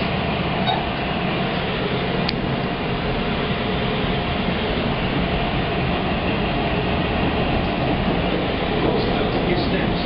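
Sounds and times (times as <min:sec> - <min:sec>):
train running on tracks: 0:00.0 - 0:10.0.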